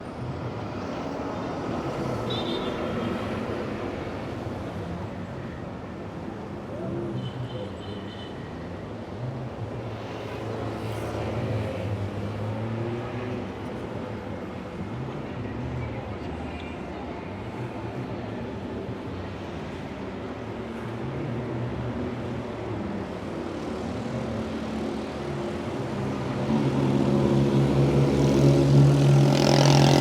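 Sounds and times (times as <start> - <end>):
passing cars: 0.0 - 30.0.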